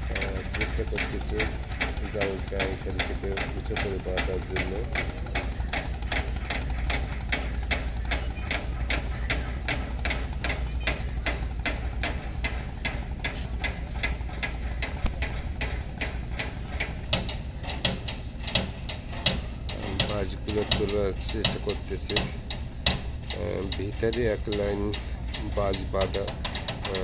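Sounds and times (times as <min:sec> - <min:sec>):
mechanical knocking: 0:00.0 - 0:27.0.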